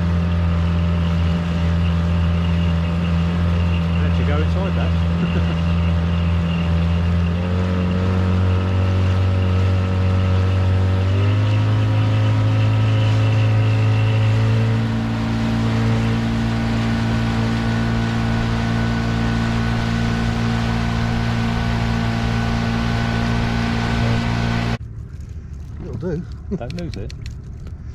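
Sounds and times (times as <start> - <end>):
outboard motor running: 0.0 - 27.9.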